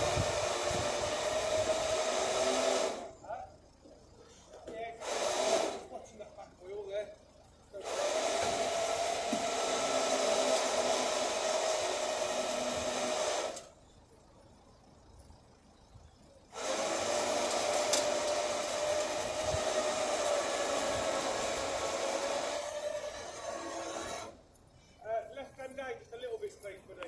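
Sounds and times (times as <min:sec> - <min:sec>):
hydraulics whining with hiss: 0:00.0 - 0:15.4, 0:16.2 - 0:25.2.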